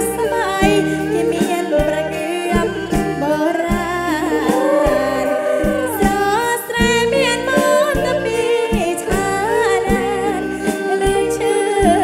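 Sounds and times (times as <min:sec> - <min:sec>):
drum kit steady beat: 0:00.0 - 0:12.0
folk band playing: 0:00.0 - 0:12.0
woman singing: 0:00.0 - 0:12.0.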